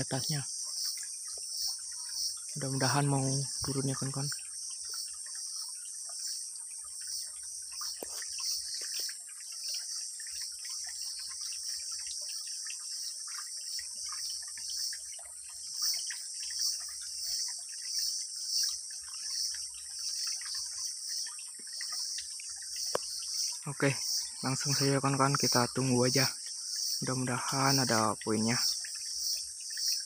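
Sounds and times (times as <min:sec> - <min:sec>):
faint chirps and ticks: 0:00.0 - 0:30.0
high-pitched insect chorus: 0:00.0 - 0:30.0.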